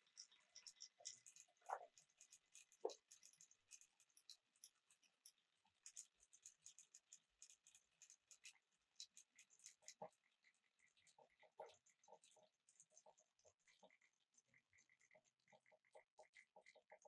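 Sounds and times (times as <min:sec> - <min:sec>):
small hard objects ticking: 0:00.0 - 0:17.0.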